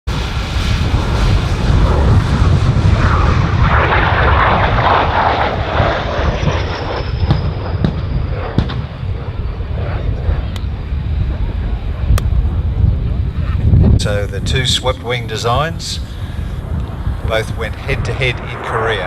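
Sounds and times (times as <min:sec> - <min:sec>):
jet engine high whine: 0:00.1 - 0:19.0
jet fighter passing overhead: 0:00.1 - 0:19.0.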